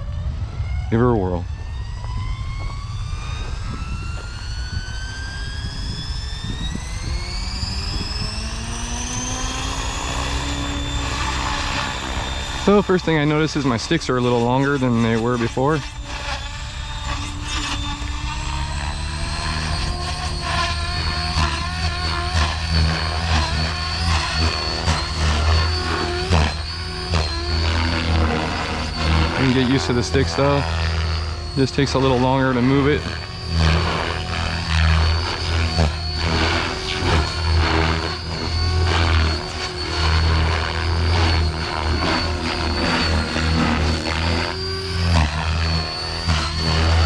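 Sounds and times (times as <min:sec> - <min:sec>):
electric motor high whine: 0:00.0 - 0:47.0
rotor low drone: 0:00.0 - 0:47.0.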